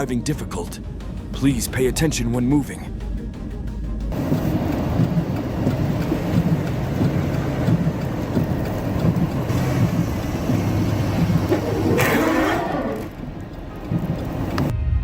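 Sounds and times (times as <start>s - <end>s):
vehicle engine and road rumble: 0.8s - 14.7s.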